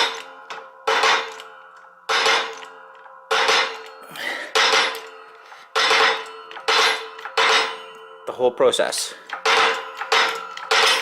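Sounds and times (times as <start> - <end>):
sharp metallic clanks: 0.0 - 8.3, 9.2 - 11.0.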